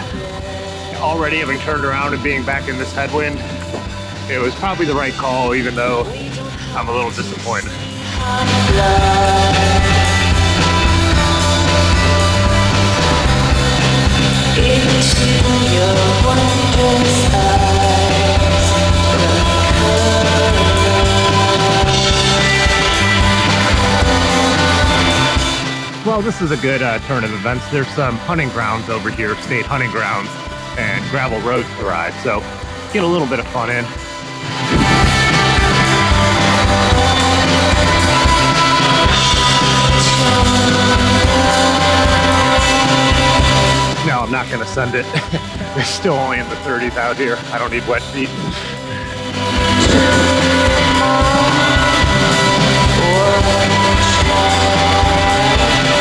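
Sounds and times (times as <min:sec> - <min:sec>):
rock music: 0:00.0 - 0:56.0.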